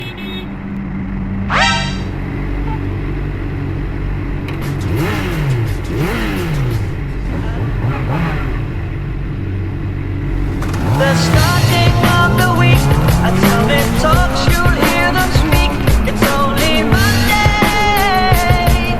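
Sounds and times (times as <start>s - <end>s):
motorcycle engines revving: 0.5s - 18.9s.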